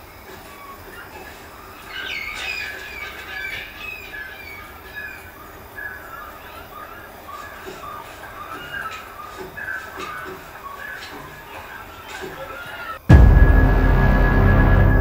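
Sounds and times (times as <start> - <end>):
animal squawking on television: 0.5 - 13.0.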